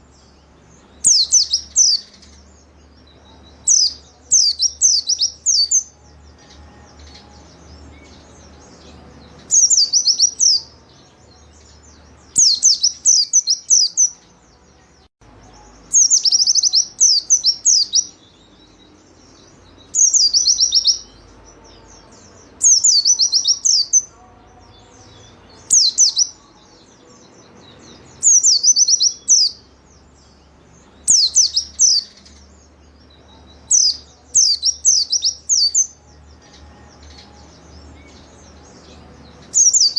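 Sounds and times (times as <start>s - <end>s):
bird twittering phrases: 0.0s - 39.9s.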